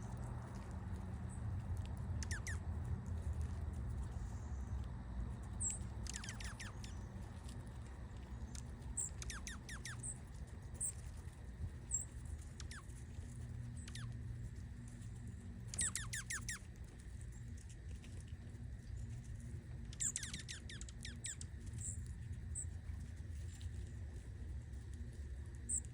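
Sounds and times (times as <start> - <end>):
small birds chirping: 0.0 - 17.9, 18.7 - 23.6, 25.6 - 25.9
steady low hum: 0.0 - 25.9.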